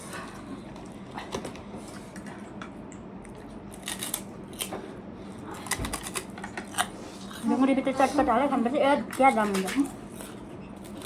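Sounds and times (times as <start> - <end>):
crunching of eating food: 0.0 - 7.6, 9.2 - 11.0.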